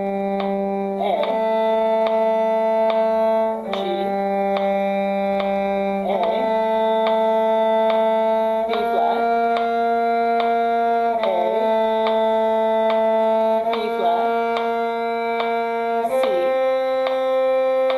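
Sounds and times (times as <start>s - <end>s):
bowed strings long notes: 0.0s - 17.9s
steady ticking beat: 0.0s - 17.9s.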